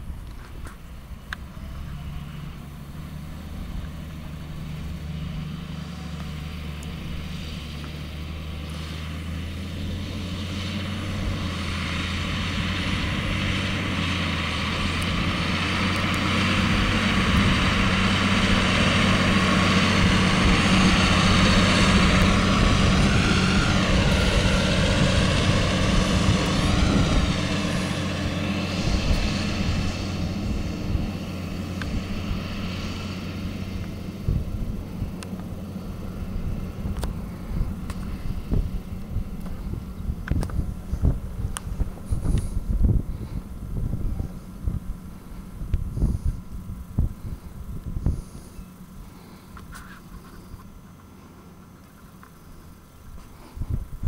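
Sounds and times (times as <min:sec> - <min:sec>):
tractor engine running: 0:00.0 - 0:54.0
high-pitched whine: 0:00.9 - 0:53.2.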